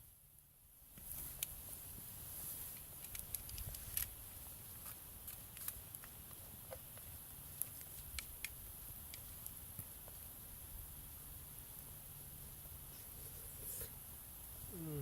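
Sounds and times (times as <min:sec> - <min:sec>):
faint steady hiss: 0:00.0 - 0:15.0
campfire crackling and popping: 0:00.3 - 0:14.7.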